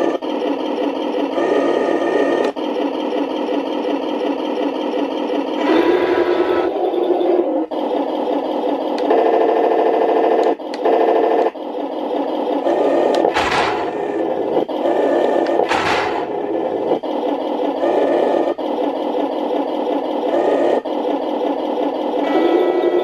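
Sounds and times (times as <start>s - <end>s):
gearboxes whirring: 0.0s - 23.0s
simulated engine sound from speaker: 0.0s - 23.0s.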